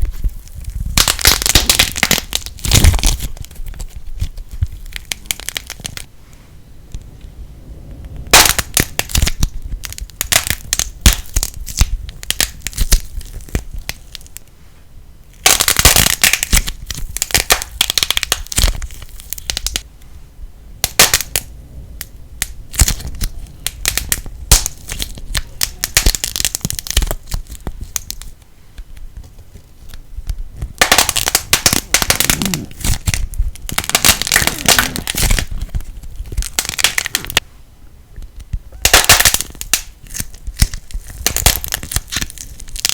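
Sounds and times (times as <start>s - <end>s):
plasticine crackling: 0.0s - 6.1s, 8.0s - 14.5s, 15.3s - 19.9s, 20.8s - 37.4s, 38.1s - 42.9s.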